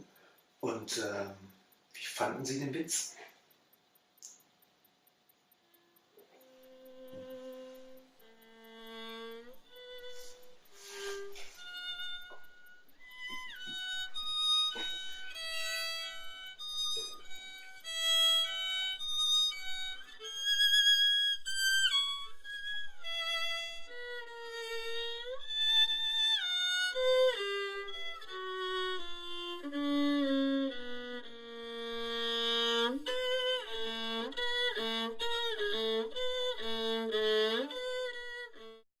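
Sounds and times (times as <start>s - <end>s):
violin melody: 5.7s - 38.9s.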